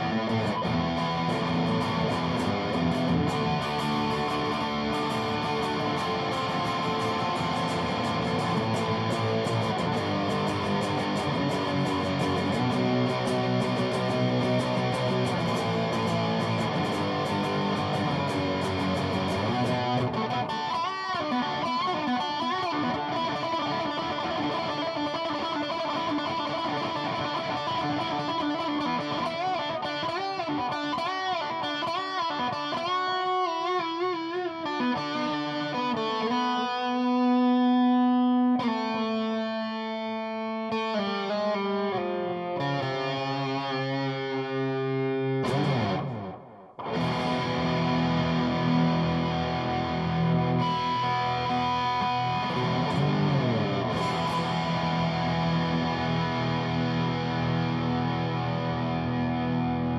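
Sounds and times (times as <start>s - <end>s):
lead electric guitar with bent notes: 0.0s - 59.9s.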